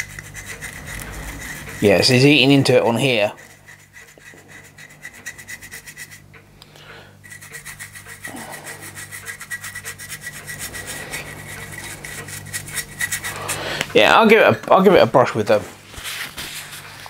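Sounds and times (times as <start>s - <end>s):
brush scrubbing sheet metal: 0.0s - 6.4s, 7.2s - 17.0s.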